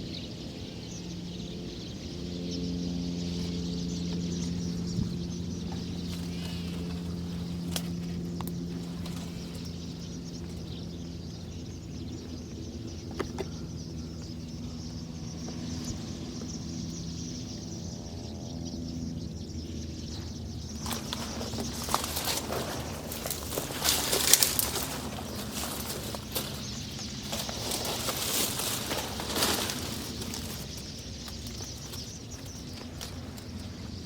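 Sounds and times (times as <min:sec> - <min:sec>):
birds chattering: 0:00.0 - 0:34.0
steady low droning hum: 0:00.0 - 0:34.0.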